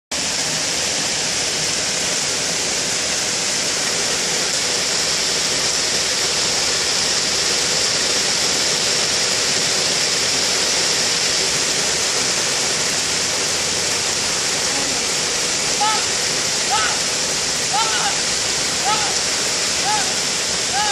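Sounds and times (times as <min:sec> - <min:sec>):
heavy rain falling: 0:00.1 - 0:20.9.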